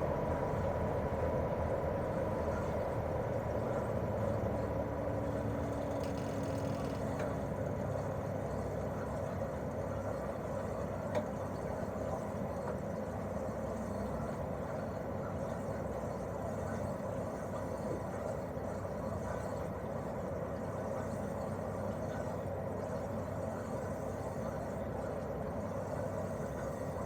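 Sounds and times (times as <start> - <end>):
air conditioner unit running: 0.0 - 27.0.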